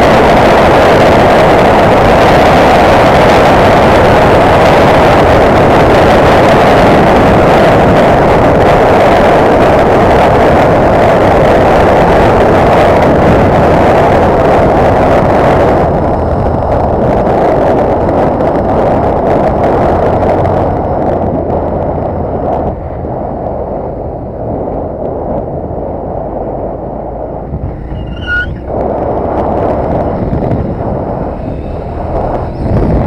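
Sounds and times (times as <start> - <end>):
motorcycle engine drone: 0.0 - 33.0
wind rushing over microphone: 0.0 - 33.0.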